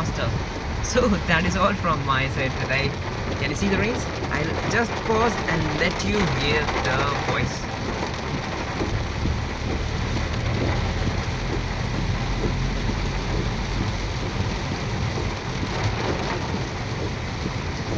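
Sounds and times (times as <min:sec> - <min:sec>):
heavy rain drumming on car roof: 0:00.0 - 0:17.9
low rumble of car: 0:00.0 - 0:17.9
windscreen wipers sweeping: 0:00.0 - 0:17.9.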